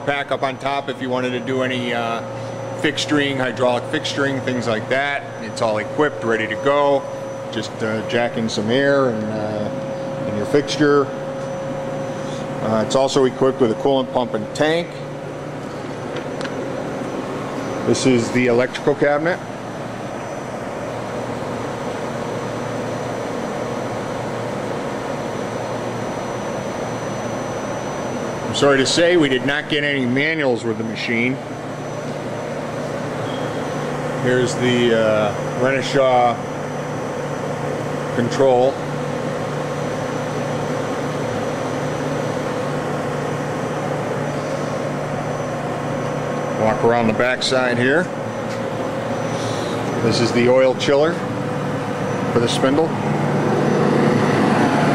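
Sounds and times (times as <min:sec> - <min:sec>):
faint high whine: 0:00.0 - 0:21.5, 0:24.0 - 0:54.9
mechanical hum and whir: 0:00.0 - 0:54.9.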